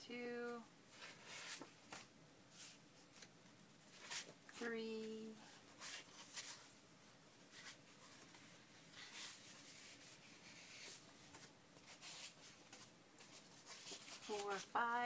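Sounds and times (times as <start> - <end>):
paper sheets rustling: 0.9 - 4.4, 5.4 - 6.7, 7.5 - 15.0.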